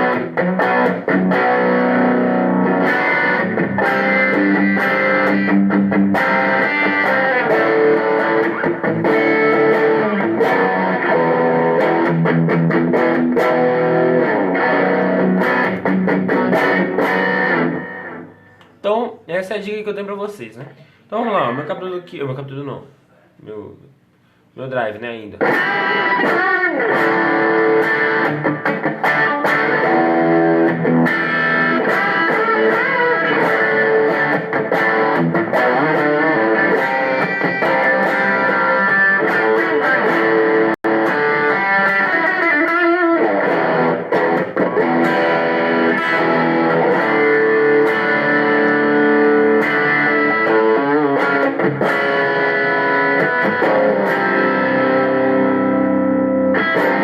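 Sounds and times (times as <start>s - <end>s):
distorted electric guitar solo: 0.0s - 18.7s, 25.4s - 57.0s.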